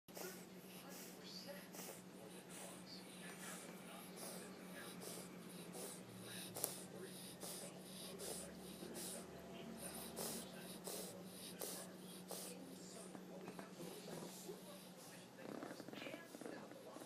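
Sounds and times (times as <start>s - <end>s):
dog snoring: 0.1s - 17.0s.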